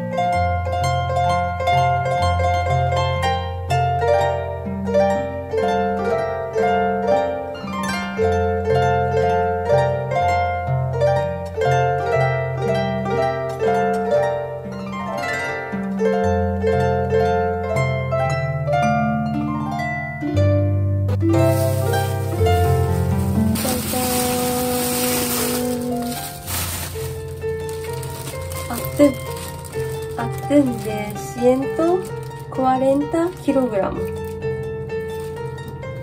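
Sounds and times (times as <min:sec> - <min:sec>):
solo harp music: 0:00.0 - 0:36.0.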